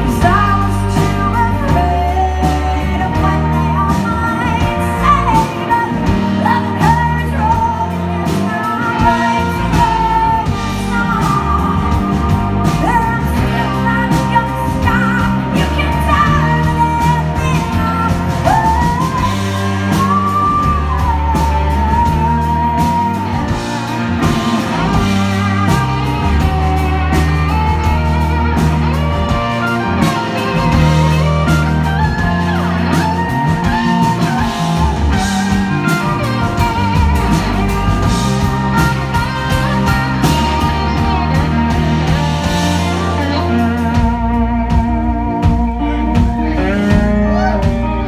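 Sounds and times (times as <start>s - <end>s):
bass guitar: 0.0s - 48.0s
drums: 0.0s - 48.0s
electric guitar: 0.0s - 48.0s
woman singing with vibrato: 0.0s - 48.0s.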